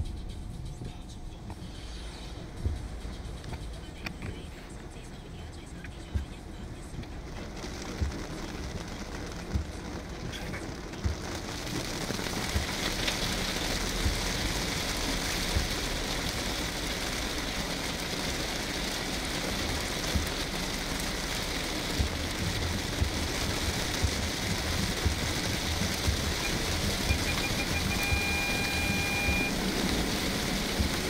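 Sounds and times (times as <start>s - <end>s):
heavy rain on car roof: 0.0s - 31.0s.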